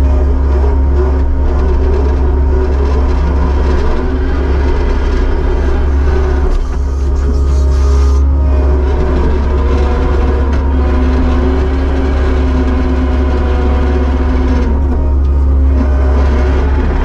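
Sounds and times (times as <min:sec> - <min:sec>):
diesel engine running loudly: 0:00.0 - 0:17.0.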